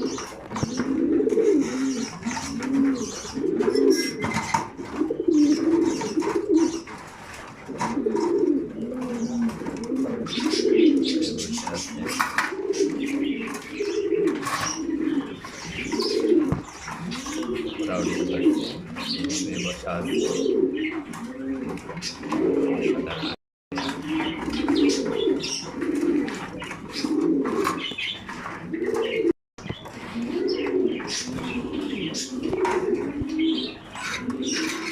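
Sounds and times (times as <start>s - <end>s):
pigeons cooing: 0.0s - 34.9s.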